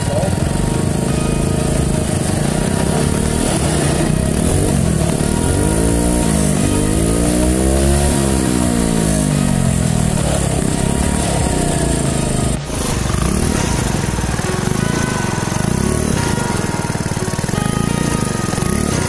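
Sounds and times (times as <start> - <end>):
scooter engine idling and revving: 0.0 - 19.0.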